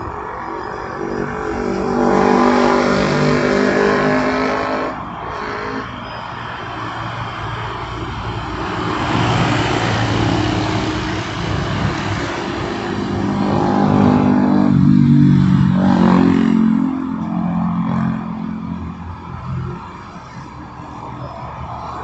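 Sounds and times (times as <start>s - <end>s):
road noise: 0.0s - 22.0s
vehicle engine: 0.0s - 22.0s.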